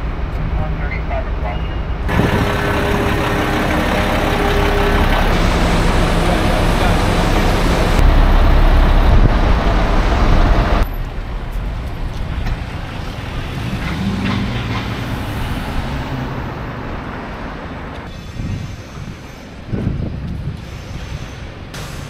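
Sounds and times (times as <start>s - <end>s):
truck diesel engine rumbling: 0.0s - 19.1s
passing street traffic: 0.0s - 22.0s.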